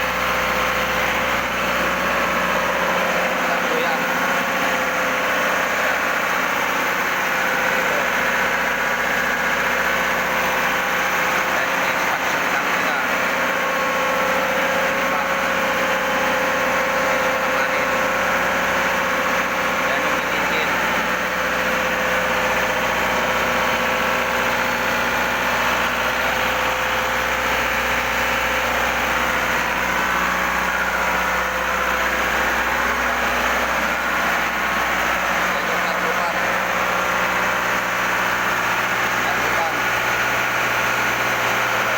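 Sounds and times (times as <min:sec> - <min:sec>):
machinery droning: 0:00.0 - 0:41.9.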